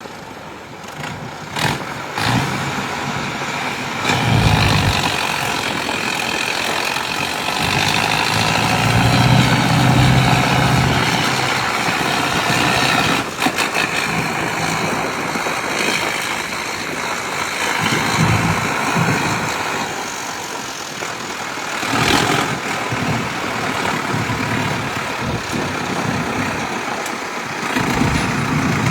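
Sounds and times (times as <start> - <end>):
tractor engine revving: 0.8 - 28.9.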